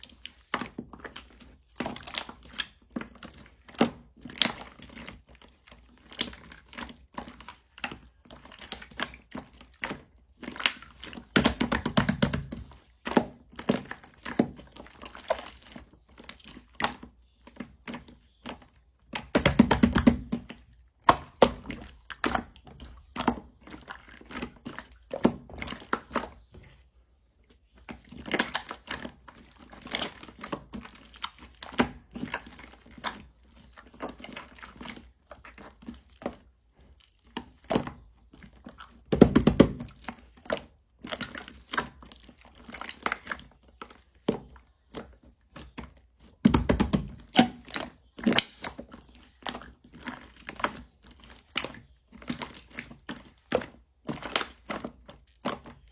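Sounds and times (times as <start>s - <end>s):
slime being kneaded: 0.0s - 55.9s.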